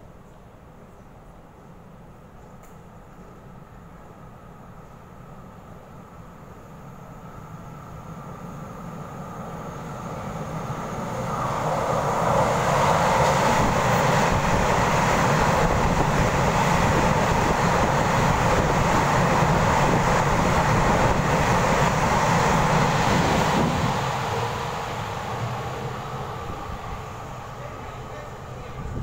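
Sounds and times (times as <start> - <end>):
electric train passing at speed: 0.0 - 29.0.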